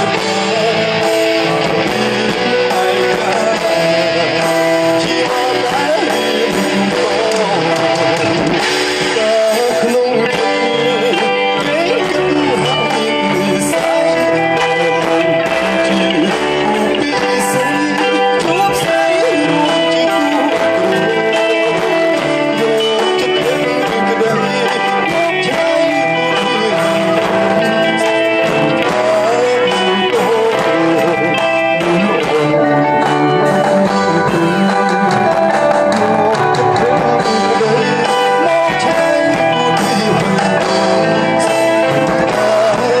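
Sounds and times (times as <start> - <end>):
instrumental band music led by guitar: 0.0 - 43.0.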